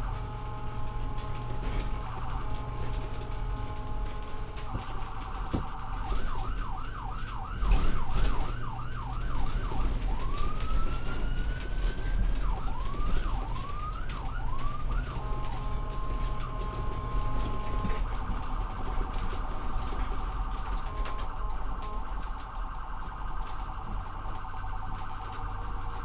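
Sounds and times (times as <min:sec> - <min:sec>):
ambulance siren: 0:00.0 - 0:26.0.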